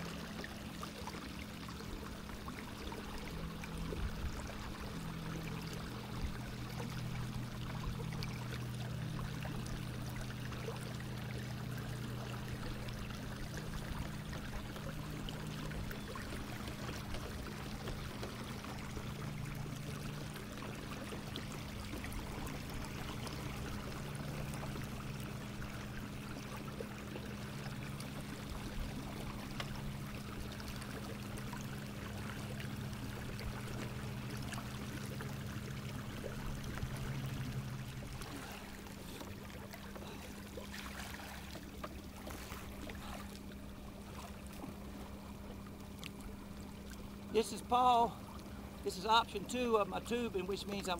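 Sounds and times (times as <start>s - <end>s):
water rushing along hull: 0.0s - 50.9s.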